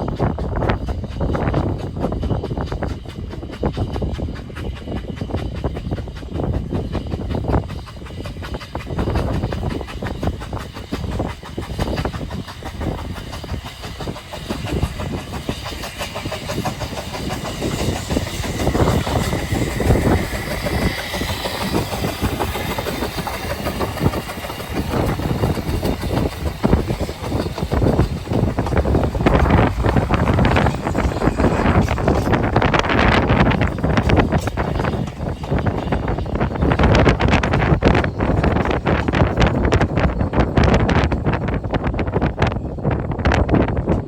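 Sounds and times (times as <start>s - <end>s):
train wheels clicking over rail joints: 0.0s - 44.0s.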